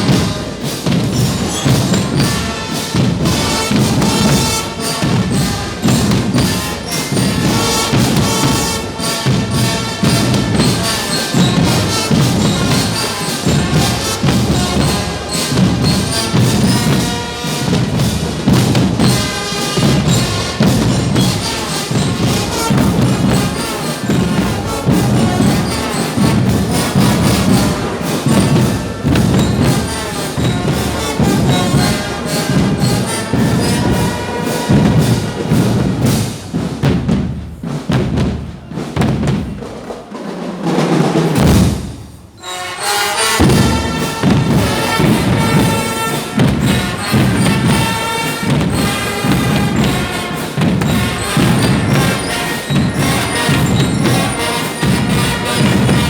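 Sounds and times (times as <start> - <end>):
band music with drums and brass: 0.0 - 56.0.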